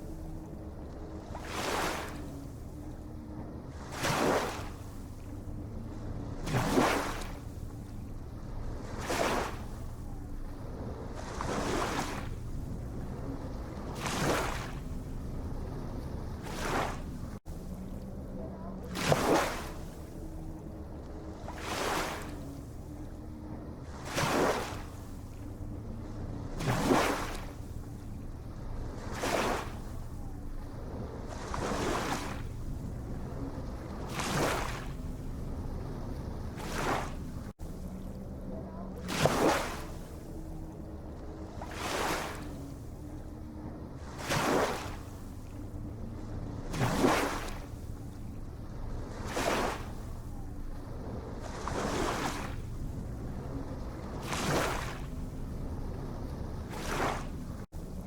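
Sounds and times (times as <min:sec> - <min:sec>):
low rumble of surf: 0:00.0 - 0:58.0
waves breaking in splashes: 0:00.0 - 0:58.0.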